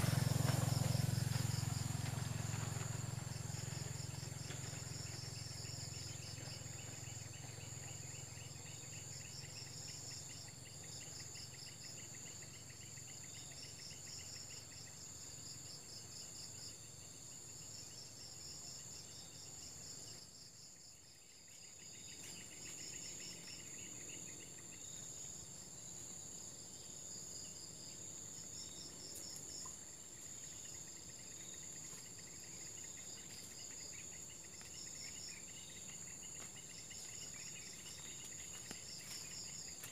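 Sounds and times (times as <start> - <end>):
insects chirping: 0.0 - 39.9
pulsing insect trills: 0.0 - 39.9.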